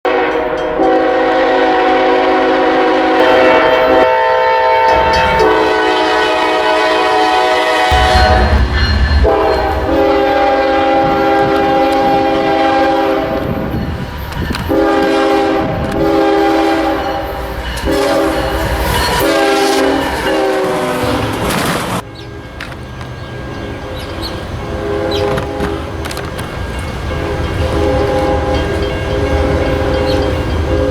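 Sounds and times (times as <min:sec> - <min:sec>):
locomotive air horn blasts: 0:00.0 - 0:13.7, 0:14.6 - 0:21.6, 0:24.5 - 0:26.4, 0:27.1 - 0:30.9
train rumble: 0:00.1 - 0:30.9.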